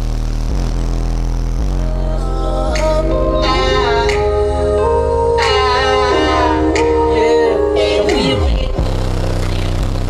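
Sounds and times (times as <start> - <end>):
bass-heavy music through subwoofer: 0.0 - 10.0.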